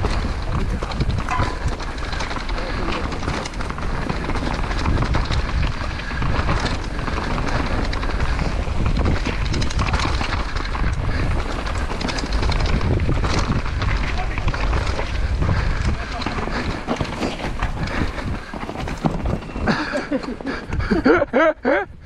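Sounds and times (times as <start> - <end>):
bike rattling clicks: 0.0 - 21.5
rumble of wind and tyres: 0.0 - 22.0.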